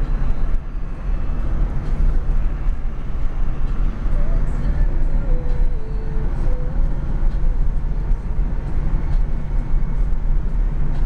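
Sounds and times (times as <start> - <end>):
car engine and tyre drone: 0.0 - 11.0.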